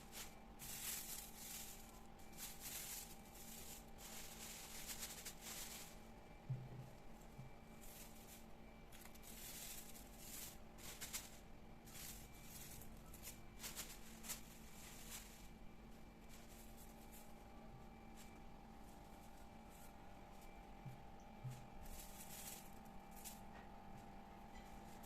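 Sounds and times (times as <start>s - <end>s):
soft rustles and ticks: 0.0s - 25.0s.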